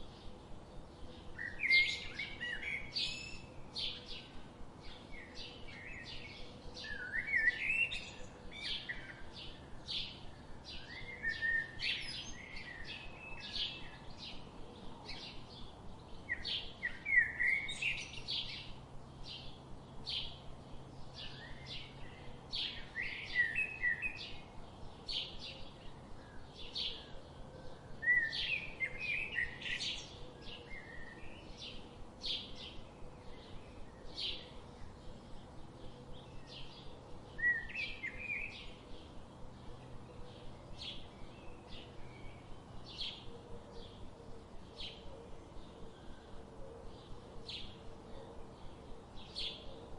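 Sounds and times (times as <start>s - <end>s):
birds twittering: 0.0s - 49.9s
small birds chirping: 0.0s - 49.9s.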